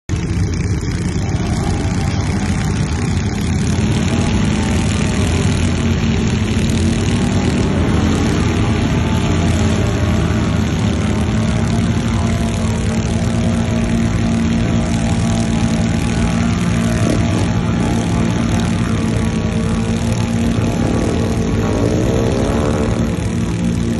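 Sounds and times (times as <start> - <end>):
off-road vehicle engine running: 0.0 - 23.9.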